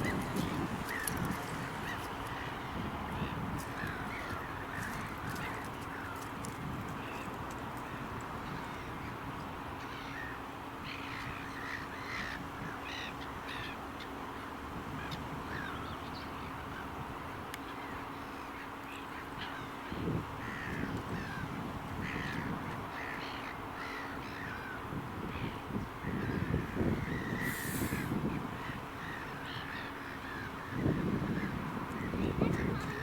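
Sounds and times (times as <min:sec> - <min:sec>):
birds calling: 0:00.0 - 0:33.0.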